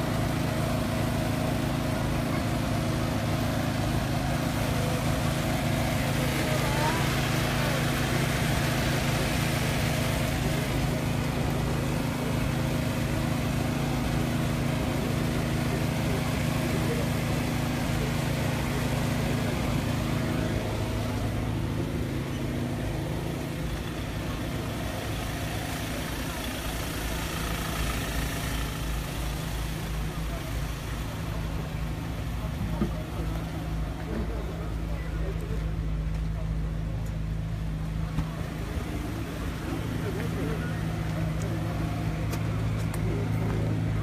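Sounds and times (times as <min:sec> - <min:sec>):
heavy vehicle engine idling: 0:00.0 - 0:44.0.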